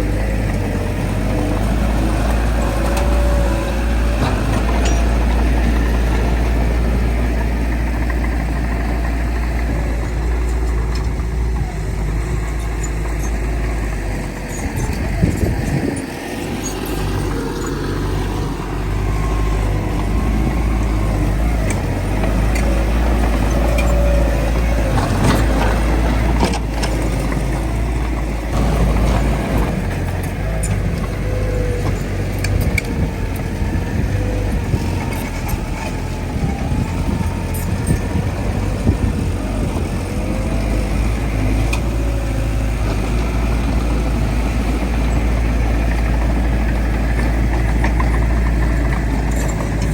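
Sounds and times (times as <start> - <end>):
diesel machinery engine drone: 0.0 - 49.9.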